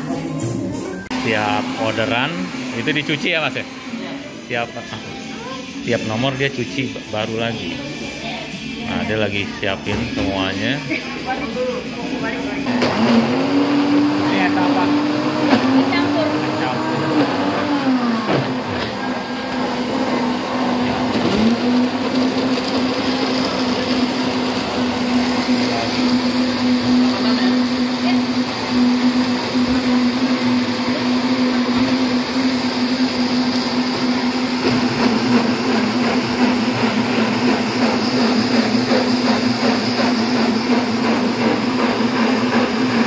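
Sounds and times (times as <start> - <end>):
blender motor running: 0.0 - 43.0.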